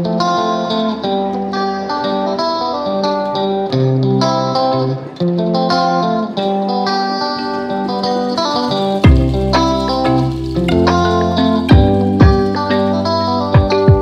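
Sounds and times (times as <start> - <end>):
plucked guitar melody: 0.0 - 14.0.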